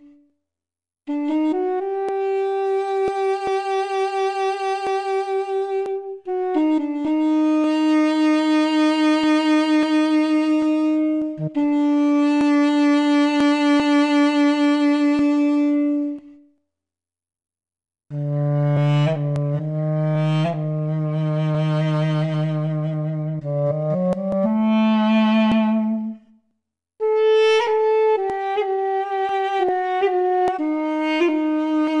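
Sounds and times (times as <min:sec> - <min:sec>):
duduk long notes with vibrato: 0:00.0 - 0:00.2, 0:01.1 - 0:16.4, 0:18.1 - 0:26.3, 0:27.0 - 0:32.0.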